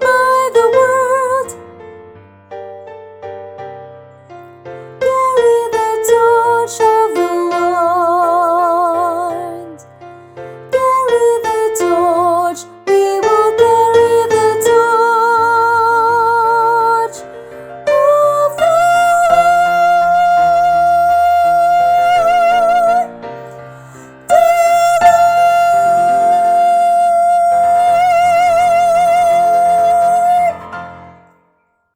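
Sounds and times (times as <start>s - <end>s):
woman singing with vibrato: 0.0s - 1.7s, 5.0s - 9.9s, 10.7s - 23.2s, 23.9s - 30.7s
piano accompaniment: 0.0s - 31.9s.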